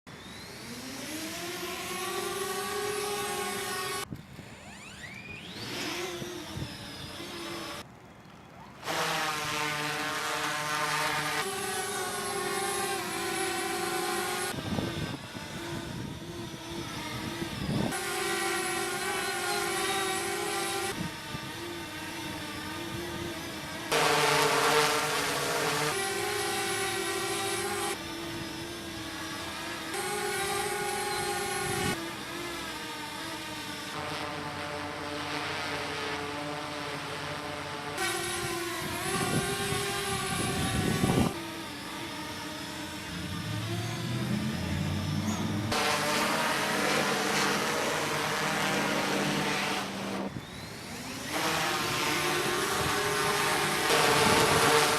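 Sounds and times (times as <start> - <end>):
drone propellers whining: 0.1 - 54.9.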